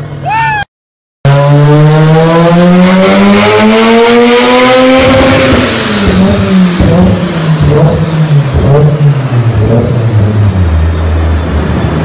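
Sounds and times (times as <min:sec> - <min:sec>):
rotary engine revving and idling: 0:01.3 - 0:12.0.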